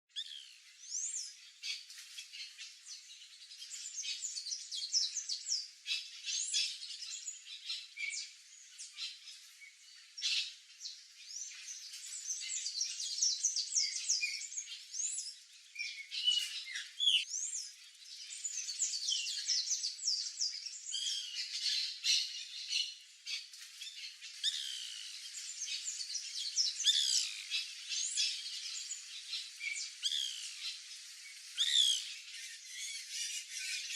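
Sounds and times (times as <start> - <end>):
birds chirping and squawking: 0.2 - 33.9.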